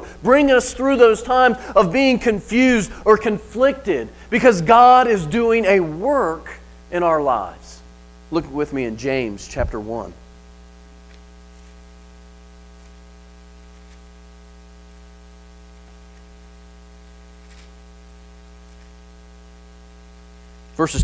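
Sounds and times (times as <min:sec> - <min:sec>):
electrical mains hum: 0:00.0 - 0:21.0
sound system hiss: 0:00.0 - 0:21.0.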